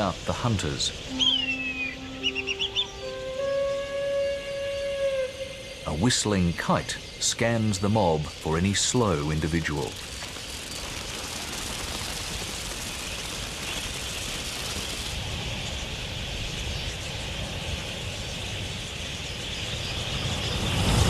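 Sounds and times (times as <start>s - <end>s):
flock of birds chattering: 0.0s - 20.8s.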